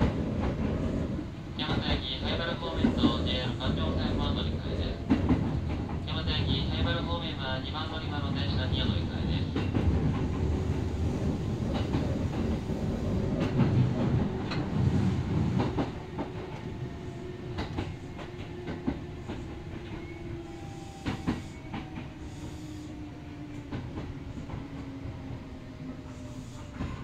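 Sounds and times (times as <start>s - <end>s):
rail joint clacks: 0.0s - 25.0s
train wheels rumbling: 0.0s - 27.0s.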